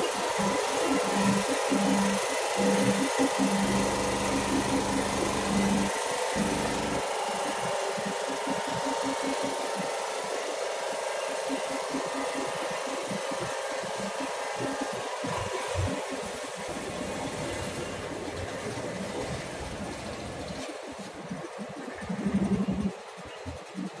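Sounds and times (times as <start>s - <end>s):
vibration motors running: 0.0s - 24.0s.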